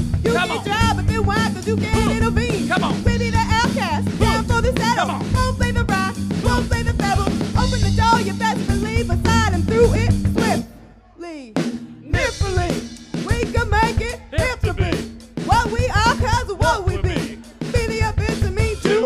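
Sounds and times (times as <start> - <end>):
live band music: 0.0 - 19.0.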